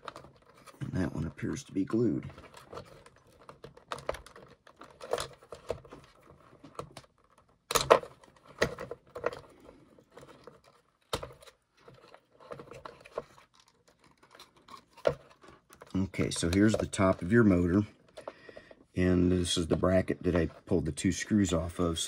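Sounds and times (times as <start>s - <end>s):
hands handling plastic parts: 0.0s - 18.9s.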